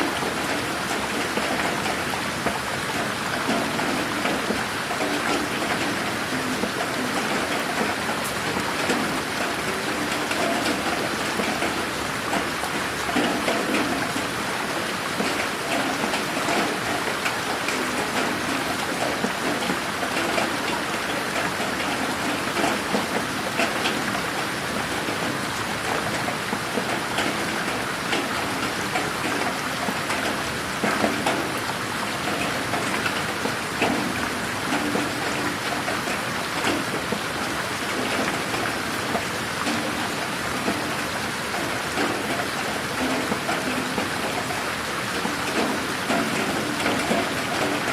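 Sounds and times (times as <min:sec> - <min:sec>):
rain patter: 0:00.0 - 0:47.9.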